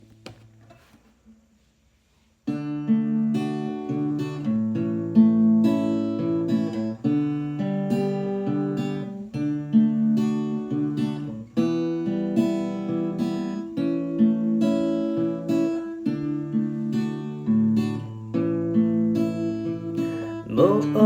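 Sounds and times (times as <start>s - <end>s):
acoustic guitar strumming chords: 2.5s - 21.0s.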